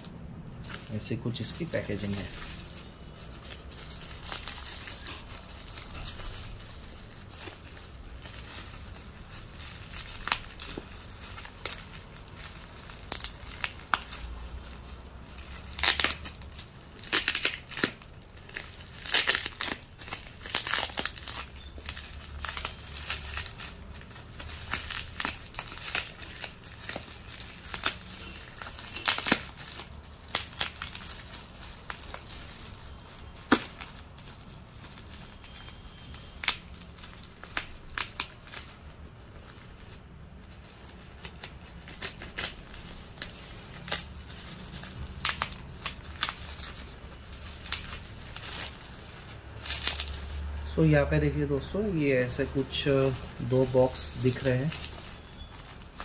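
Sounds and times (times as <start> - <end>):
bubble wrap crinkling and crackling: 0.0 - 56.0.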